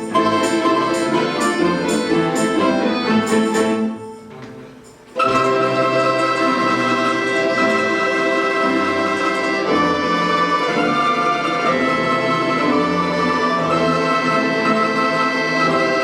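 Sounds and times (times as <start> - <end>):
folk instrument orchestra playing: 0.0 - 16.0.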